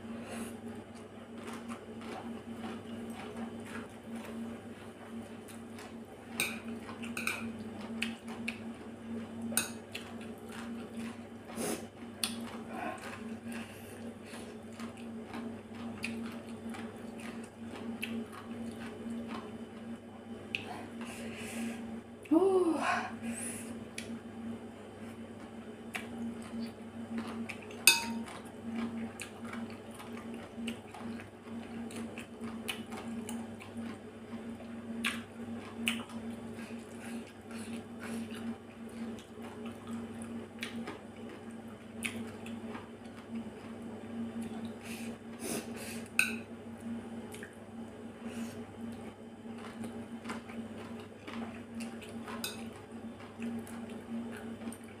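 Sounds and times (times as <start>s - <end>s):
steady low hum: 0.0s - 55.0s
slurping and chewing: 0.2s - 21.9s, 25.0s - 43.8s, 48.2s - 55.0s.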